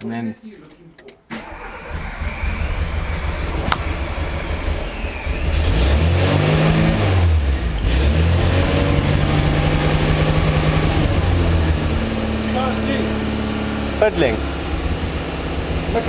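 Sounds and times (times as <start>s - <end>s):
car engine revving: 1.4s - 16.0s.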